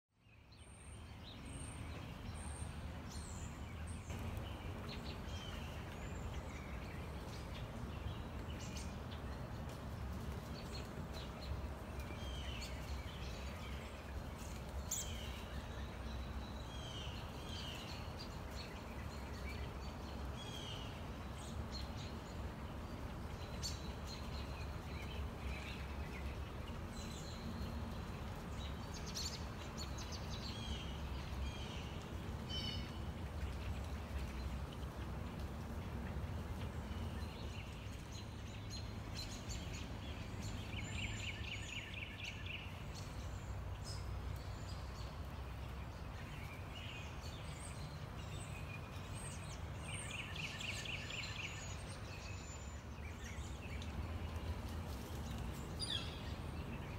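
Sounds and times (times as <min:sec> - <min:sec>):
wild birds chirping: 0:00.1 - 0:56.9.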